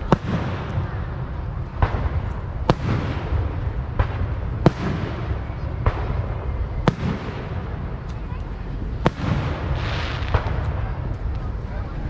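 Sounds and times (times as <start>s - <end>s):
fireworks bangs: 0.0s - 11.9s.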